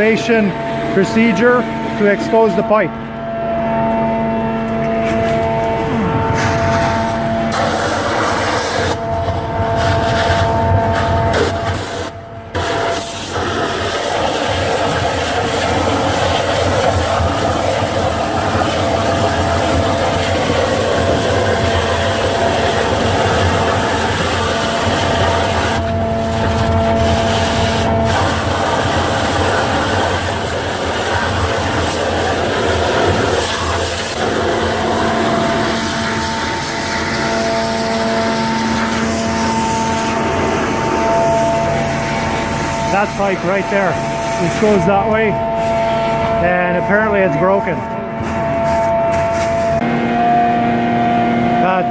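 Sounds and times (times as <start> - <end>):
faint machine whine: 0.0 - 51.9
vacuum truck and pressure washer drone: 0.0 - 51.9.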